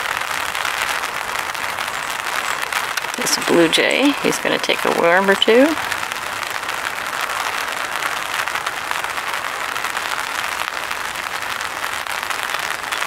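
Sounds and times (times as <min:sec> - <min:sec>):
rain pattering on an umbrella: 0:00.0 - 0:13.0.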